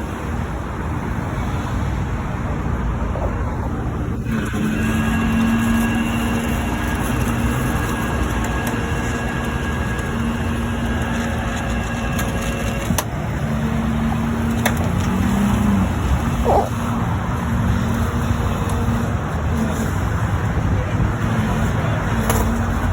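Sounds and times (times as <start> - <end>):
highway traffic rumble: 0.0 - 22.9
tow truck engine running: 0.0 - 22.9.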